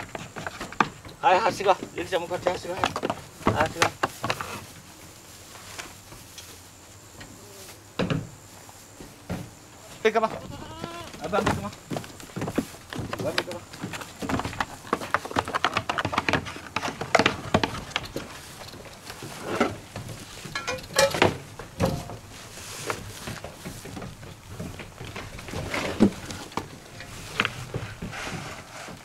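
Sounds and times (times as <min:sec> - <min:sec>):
hooves clattering on wooden boards: 0:00.0 - 0:05.1, 0:08.9 - 0:29.0.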